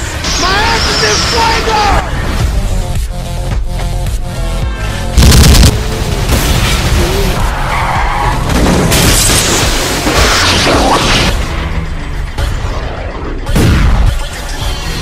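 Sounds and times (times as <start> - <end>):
trailer music: 0.0 - 15.0.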